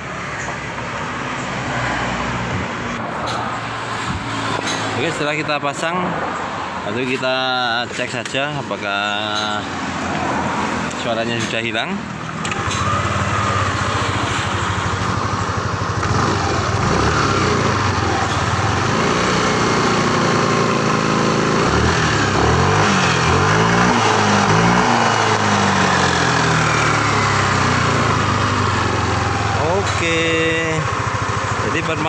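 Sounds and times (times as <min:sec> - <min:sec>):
scooter engine idling and revving: 0:00.0 - 0:32.0.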